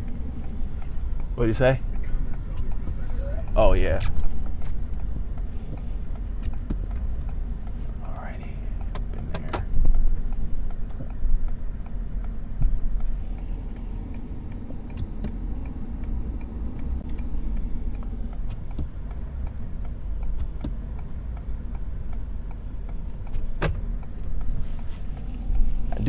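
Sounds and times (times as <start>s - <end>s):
light ticks: 0.0s - 26.0s
truck engine rumbling: 0.0s - 26.0s.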